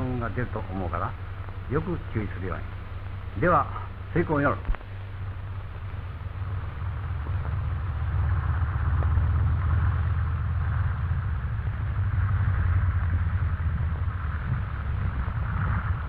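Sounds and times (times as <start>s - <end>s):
propeller aircraft engines droning: 0.0s - 16.0s.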